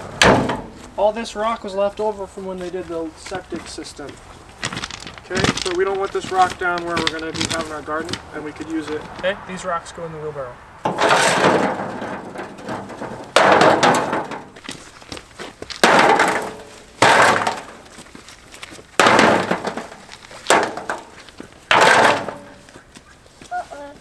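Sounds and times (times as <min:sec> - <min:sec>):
rocks clattering into wheelbarrow: 0:00.0 - 0:09.7, 0:10.8 - 0:23.6.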